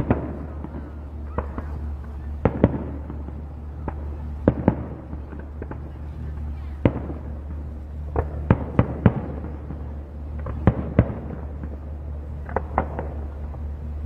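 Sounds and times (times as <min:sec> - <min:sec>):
fireworks bursting with sharp bangs: 0:00.0 - 0:14.0
steady low hum: 0:00.0 - 0:14.0.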